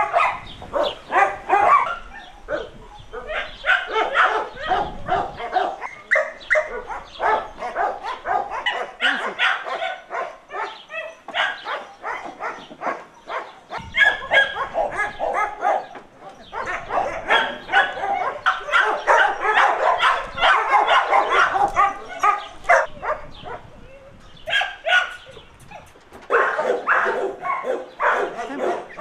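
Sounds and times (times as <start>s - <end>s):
dogs barking: 0.0s - 23.8s, 24.4s - 29.0s.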